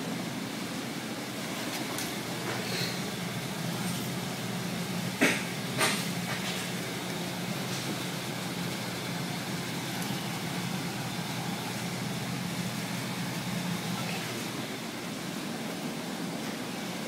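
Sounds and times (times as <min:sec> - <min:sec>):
constant hiss: 0:00.0 - 0:17.0
low machine hum: 0:00.0 - 0:17.0.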